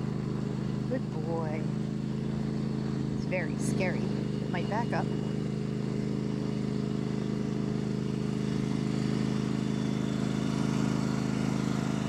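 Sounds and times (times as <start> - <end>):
large machine engine droning: 0.0 - 12.0.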